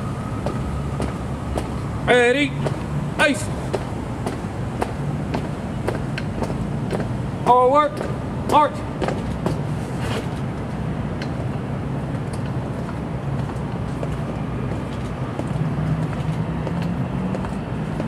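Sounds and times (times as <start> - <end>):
city traffic rumble: 0.0 - 18.0
vehicle engine drone: 0.0 - 18.0.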